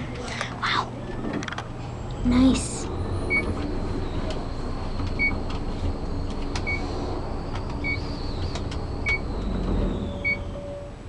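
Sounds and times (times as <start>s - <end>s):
elevator low rumble: 0.0s - 11.0s.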